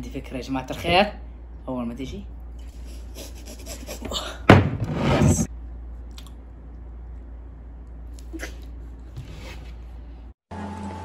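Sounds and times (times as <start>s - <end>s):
room tone hum: 0.0s - 11.0s.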